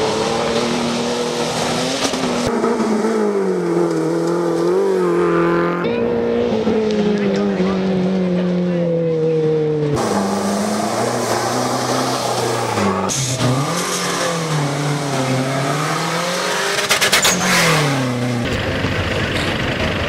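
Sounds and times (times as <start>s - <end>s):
rally engines revving: 0.0s - 20.0s.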